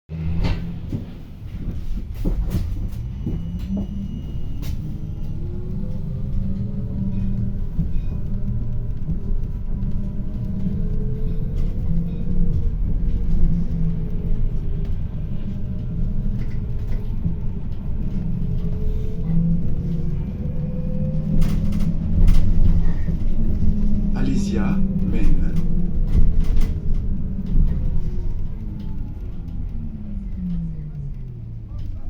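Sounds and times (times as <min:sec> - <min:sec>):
bus engine and road rumble: 0:00.1 - 0:32.0
rattles and knocks: 0:05.5 - 0:32.0.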